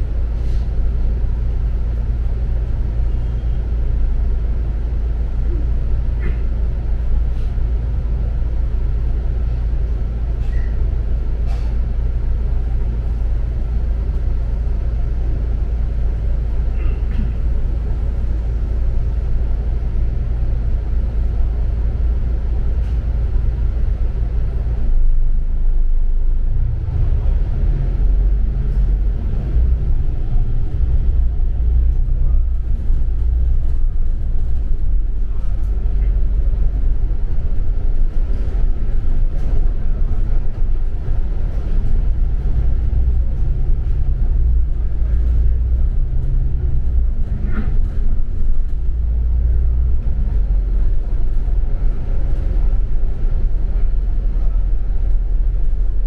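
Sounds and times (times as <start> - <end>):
bus engine drone and road rumble: 0.0 - 56.0.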